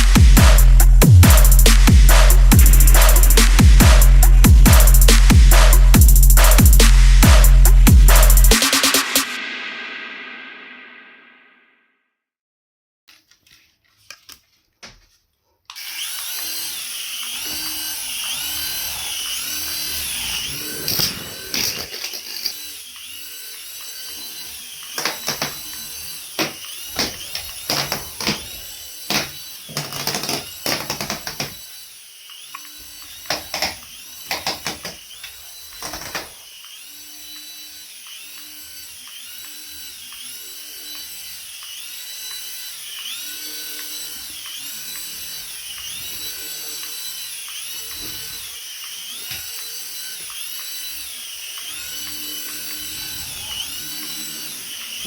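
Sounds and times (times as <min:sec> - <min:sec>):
small electric motor whining: 0:00.0 - 0:09.4, 0:15.7 - 0:55.0.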